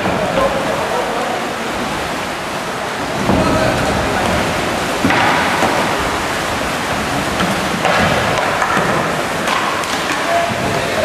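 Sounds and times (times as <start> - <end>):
paddles splashing water: 0.0 - 11.0.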